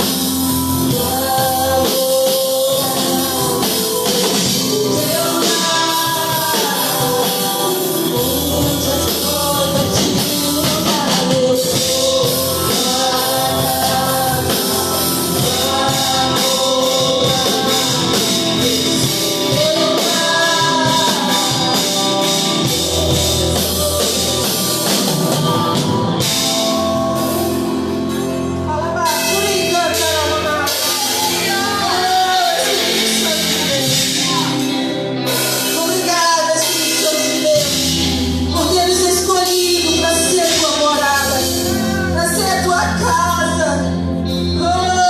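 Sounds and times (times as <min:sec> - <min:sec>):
drum kit rock beat: 0:00.0 - 0:45.0
gospel band playing: 0:00.0 - 0:45.0
voices singing: 0:00.0 - 0:45.0.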